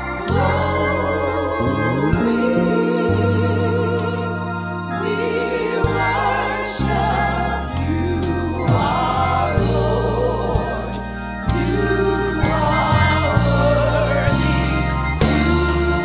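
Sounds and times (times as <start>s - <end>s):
choir singing with vibrato: 0.0s - 16.0s
organ chords: 0.0s - 16.0s.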